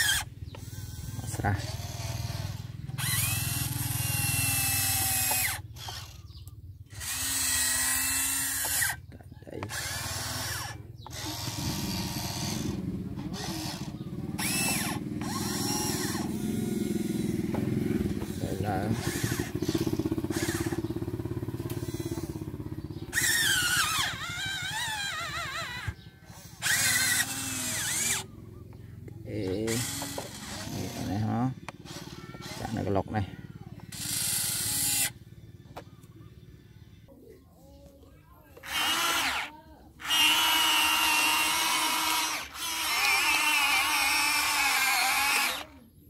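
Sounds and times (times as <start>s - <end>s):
electric motors whining: 0.0s - 37.1s, 38.5s - 46.0s.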